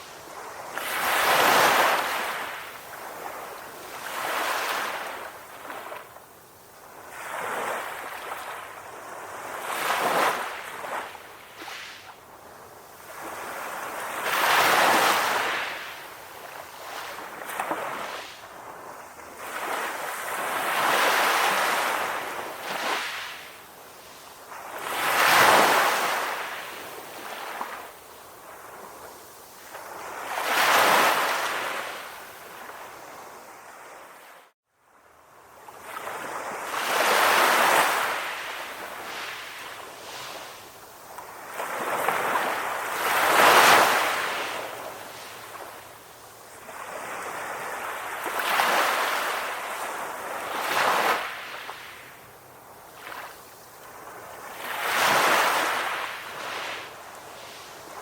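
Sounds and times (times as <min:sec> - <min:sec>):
ocean waves surging and washing back: 0:00.0 - 0:58.0.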